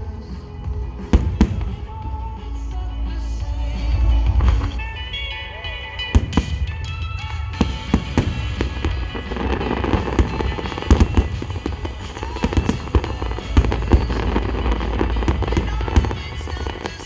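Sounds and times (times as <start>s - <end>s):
fireworks bangs: 0.0s - 17.0s
low rumble: 0.0s - 17.0s
music over loudspeakers: 0.0s - 17.0s.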